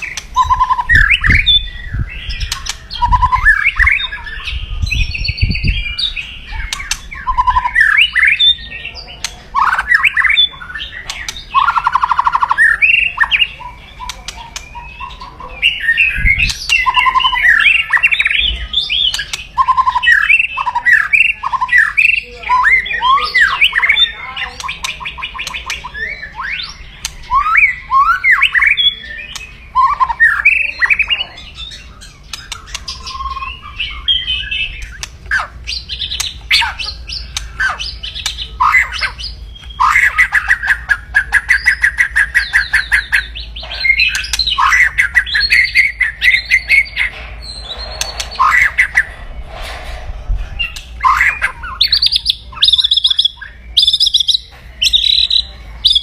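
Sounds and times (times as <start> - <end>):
songbird singing and chattering: 0.0 - 56.0.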